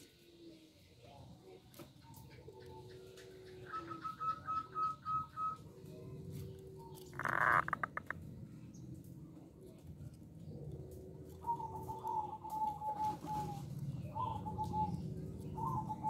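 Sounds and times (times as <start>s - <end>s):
dove calling: 0.0s - 16.0s.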